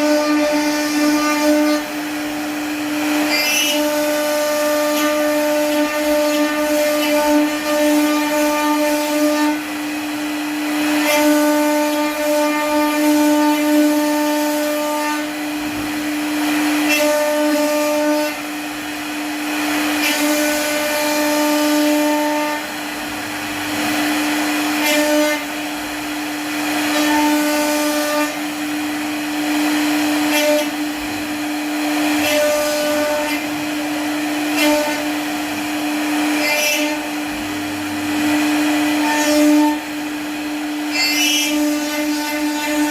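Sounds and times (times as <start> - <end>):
wood router spindle whining: 0.0 - 42.9.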